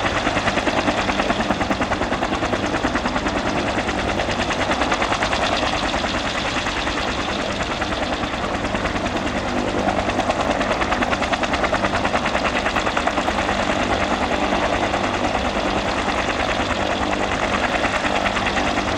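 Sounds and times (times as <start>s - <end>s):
helicopter rotor beating: 0.0s - 18.9s.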